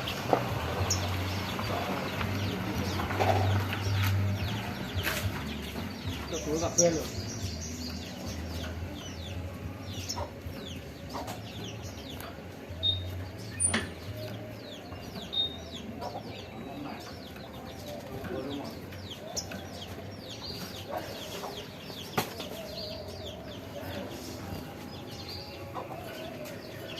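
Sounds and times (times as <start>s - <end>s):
fledgling birds chirping: 0.0s - 26.9s.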